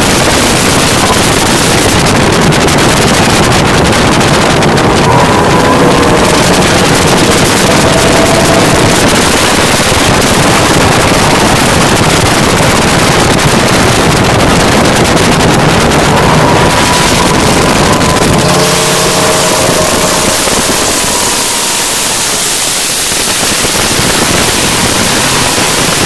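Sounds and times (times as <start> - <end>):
speedboat engines running: 0.0 - 26.0
water rushing past hull: 0.0 - 26.0
wind buffeting microphone: 0.0 - 26.0.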